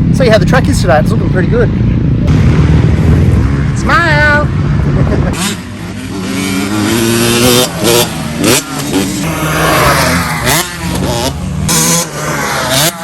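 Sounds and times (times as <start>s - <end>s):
dirt bikes revving: 0.0s - 13.0s.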